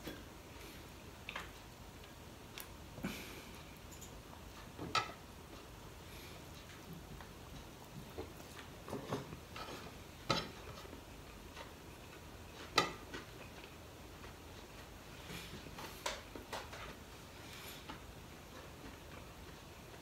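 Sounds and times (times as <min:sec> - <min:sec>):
eating by hand clicks and smacks: 0:01.1 - 0:05.8, 0:06.5 - 0:20.0.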